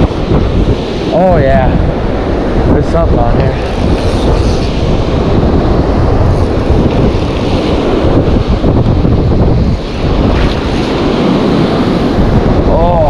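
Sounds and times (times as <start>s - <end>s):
strong wind buffeting microphone: 0.0s - 13.0s
surf breaking: 0.0s - 13.0s.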